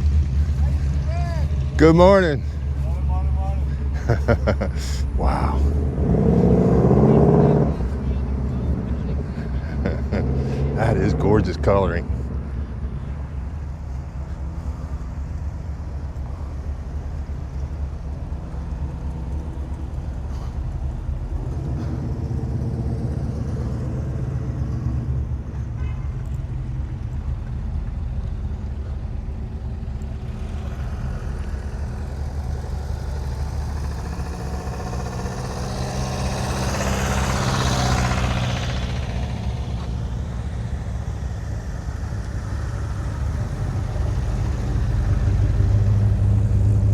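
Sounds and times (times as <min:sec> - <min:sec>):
car engine running at low revs: 0:00.0 - 0:46.9
vehicle passing close: 0:00.0 - 0:46.9.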